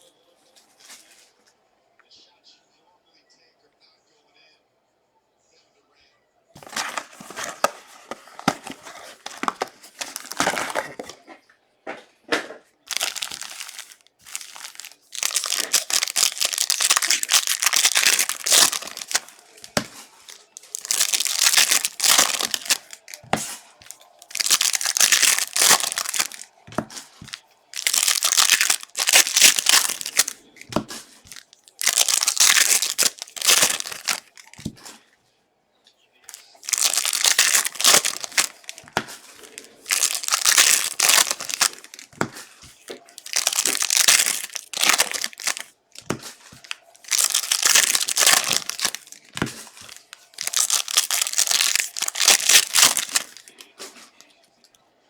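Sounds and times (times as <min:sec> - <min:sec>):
plastic wrapping ripping and crinkling: 0:06.6 - 0:11.2, 0:12.9 - 0:35.0, 0:36.3 - 0:54.2.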